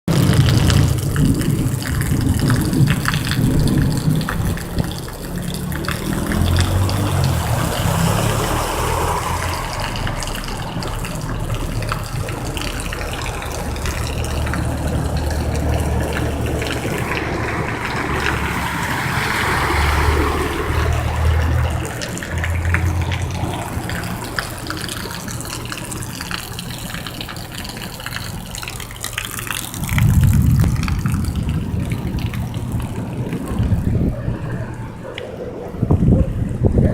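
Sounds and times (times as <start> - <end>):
rain hissing: 0.1 - 35.0
pattering rain ticks: 0.1 - 35.3
low rumble: 0.1 - 36.9.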